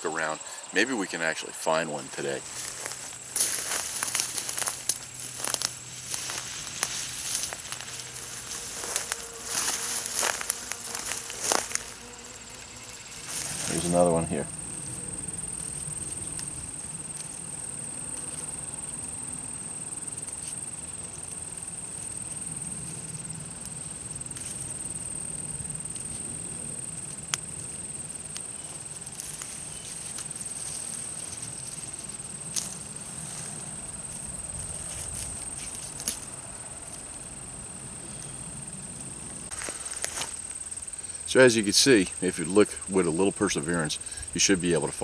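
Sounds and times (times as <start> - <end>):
insects droning: 0.0 - 45.0
stems rustling and clicking: 2.0 - 19.2, 20.0 - 37.3, 39.5 - 45.0.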